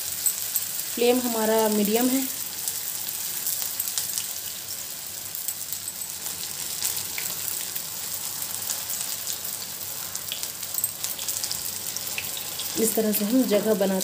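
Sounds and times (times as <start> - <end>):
oil sizzling with pops: 0.0 - 14.0.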